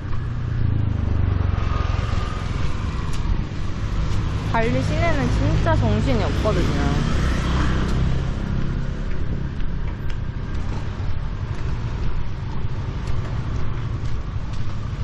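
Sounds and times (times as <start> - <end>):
low street rumble: 0.0 - 15.0.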